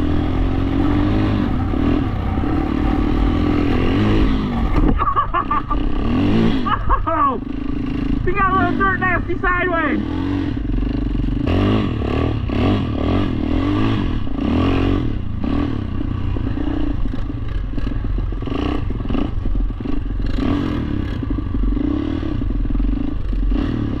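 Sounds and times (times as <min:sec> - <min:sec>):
quad engine revving: 0:00.0 - 0:24.0.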